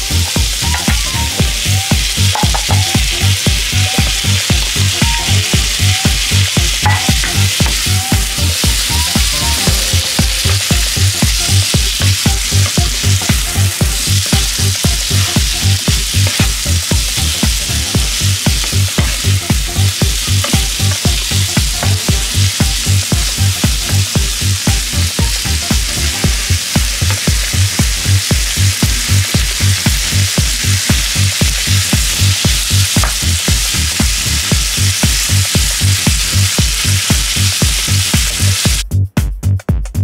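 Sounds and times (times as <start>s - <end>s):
vegetables sizzling in butter: 0.0s - 38.8s
background music beat: 0.0s - 40.0s.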